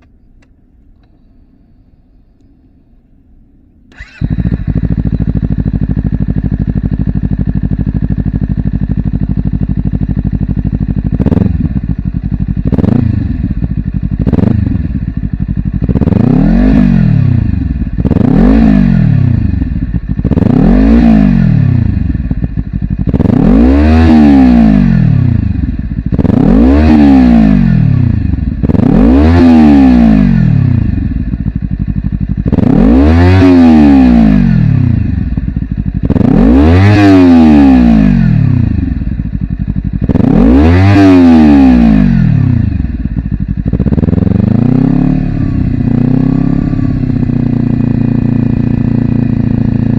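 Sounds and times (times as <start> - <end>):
motorcycle engine revving: 3.9 - 49.9.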